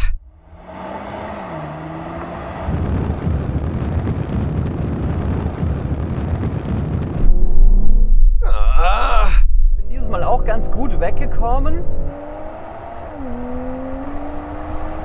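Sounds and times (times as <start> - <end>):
car engine accelerating: 0.2 - 8.1, 9.8 - 15.0
wind noise: 2.3 - 15.0.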